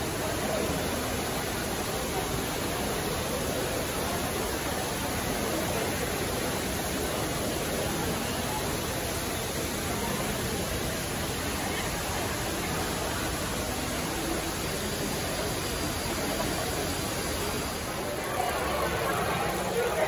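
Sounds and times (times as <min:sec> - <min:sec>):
fountain water running: 0:00.0 - 0:20.0
murmur of many people talking: 0:00.0 - 0:20.0.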